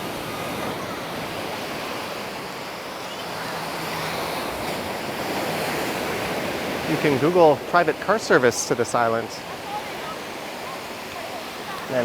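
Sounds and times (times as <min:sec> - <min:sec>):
sea waves washing on sand: 0:00.0 - 0:12.0.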